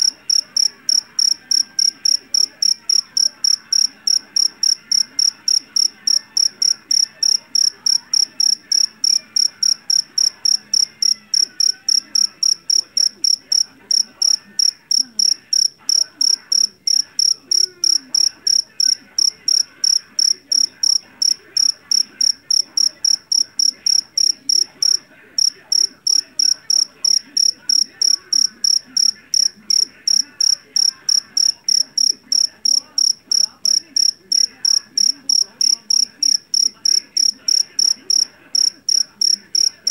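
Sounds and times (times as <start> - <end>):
cricket chirping shrilly: 0.0 - 39.9.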